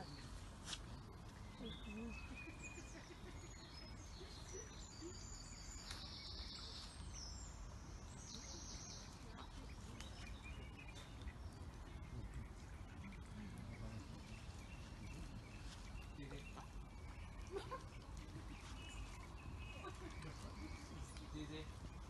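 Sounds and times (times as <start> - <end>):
birds chirping: 0.0 - 22.0
low outdoor rumble: 0.0 - 22.0.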